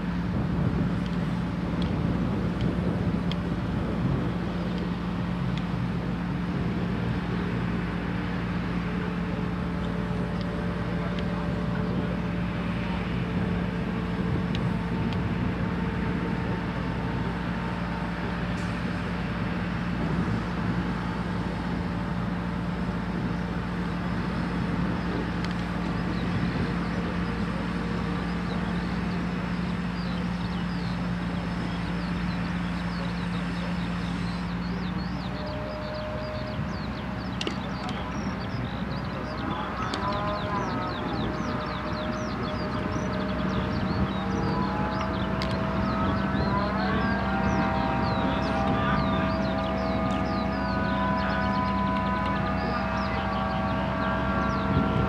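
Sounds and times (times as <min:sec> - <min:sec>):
crane diesel engine humming: 0:00.0 - 0:55.0
faint whining tones: 0:00.0 - 0:55.0.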